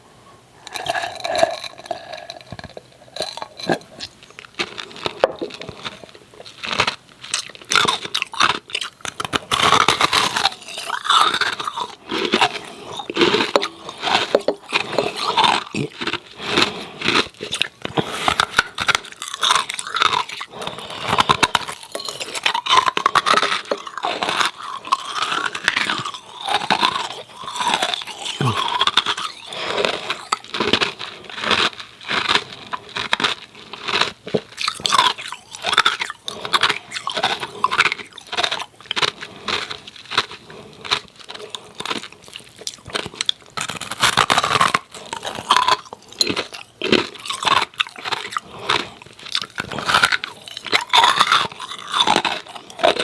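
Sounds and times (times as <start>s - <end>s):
ice cubes crunched and chewed: 0.6s - 53.0s.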